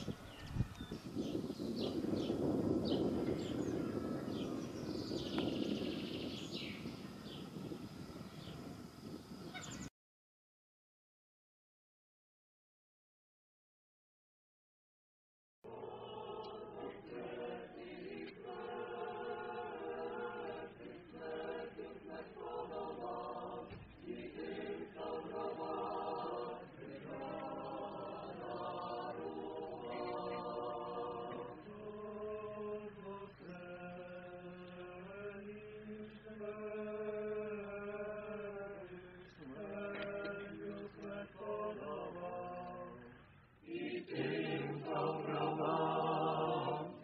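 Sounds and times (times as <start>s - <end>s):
choir chanting: 1.0s - 8.8s, 15.6s - 47.0s.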